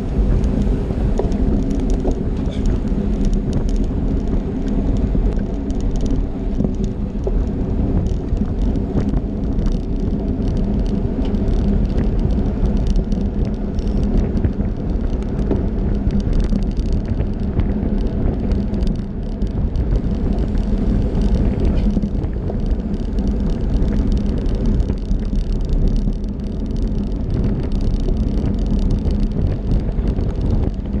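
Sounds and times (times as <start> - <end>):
tyres rolling on asphalt: 0.0 - 31.0
wind rush: 0.0 - 31.0.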